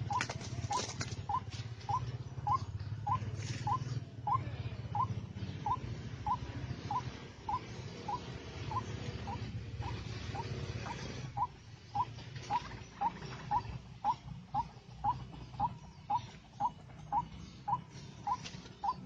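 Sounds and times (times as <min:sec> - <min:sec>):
bird call repeated notes: 0:00.0 - 0:19.0
steady low hum: 0:00.0 - 0:19.0.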